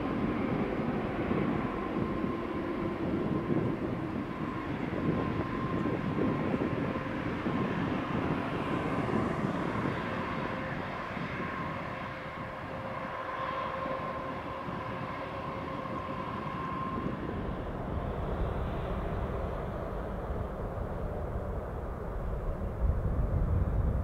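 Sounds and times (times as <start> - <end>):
jet engine high whine: 0.0 - 24.0
jet engine rumble: 0.0 - 24.0.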